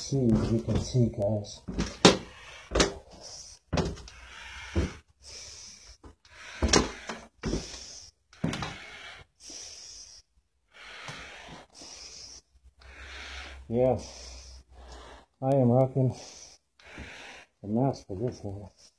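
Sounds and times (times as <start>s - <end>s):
breathing through face mask: 1.7s - 15.4s, 16.0s - 17.6s.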